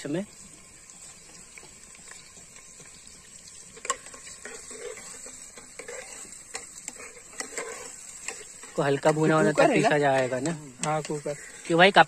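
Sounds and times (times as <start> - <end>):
onions sizzling in oil: 0.0 - 12.0
metal spoon scraping a pot: 1.9 - 12.0.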